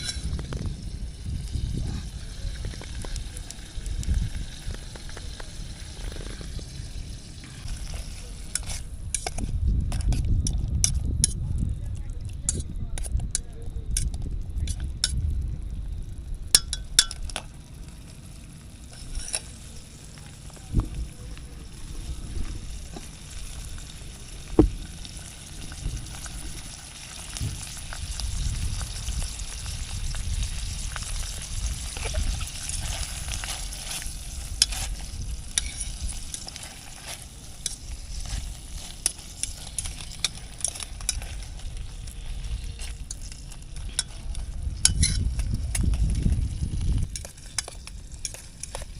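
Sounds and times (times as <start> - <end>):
food sizzling in a pan: 0.0 - 9.4, 16.3 - 48.9.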